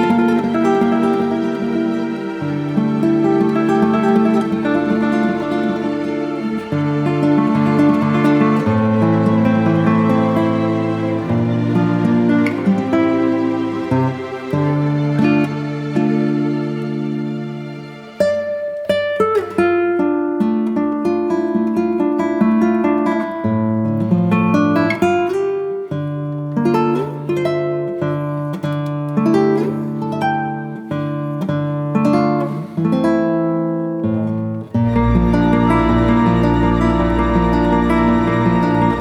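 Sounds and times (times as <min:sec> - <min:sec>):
acoustic guitar music: 0:00.0 - 0:39.0.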